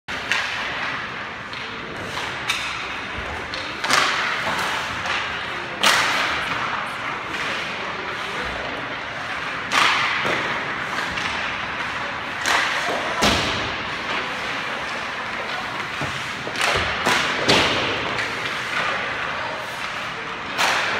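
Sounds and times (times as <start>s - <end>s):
hockey pucks hitting pads and boards: 0.1s - 20.9s.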